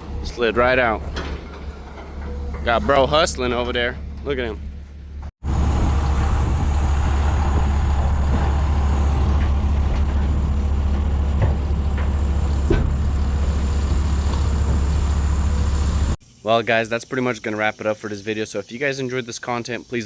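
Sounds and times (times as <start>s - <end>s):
large vehicle engine droning: 0.0s - 16.2s.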